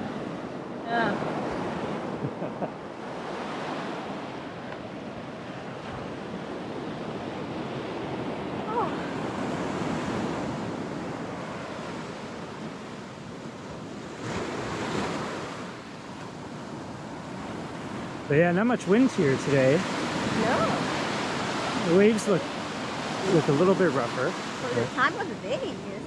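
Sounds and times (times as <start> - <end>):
ocean surf washing up a beach: 0.0 - 26.0.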